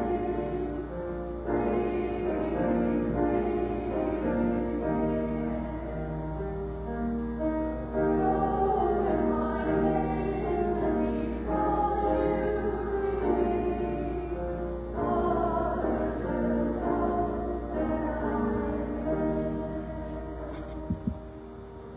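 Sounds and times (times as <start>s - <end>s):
church choir singing: 0.0s - 21.9s
steady low hum: 0.0s - 21.9s.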